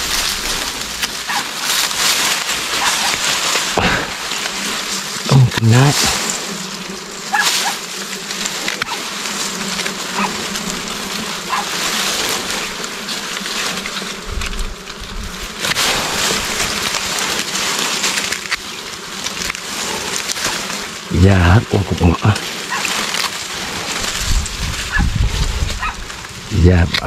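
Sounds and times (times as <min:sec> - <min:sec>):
bees buzzing: 0:00.0 - 0:27.0
grass and twigs rustling: 0:00.0 - 0:27.0.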